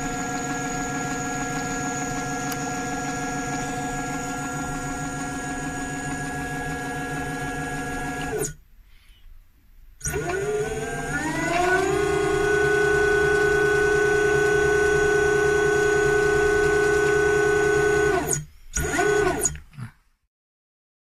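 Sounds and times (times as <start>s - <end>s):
electric motor whining: 0.0s - 8.5s, 10.0s - 19.6s.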